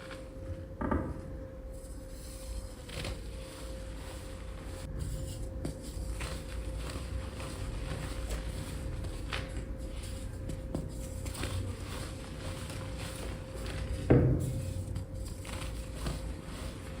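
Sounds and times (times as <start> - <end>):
steady low hum: 0.0 - 17.0
chalk crunching by hand: 1.8 - 17.0.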